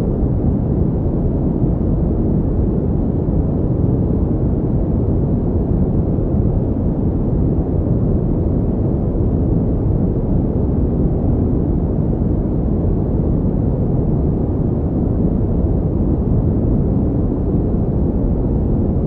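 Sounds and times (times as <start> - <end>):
deep pink noise rush: 0.0 - 19.0.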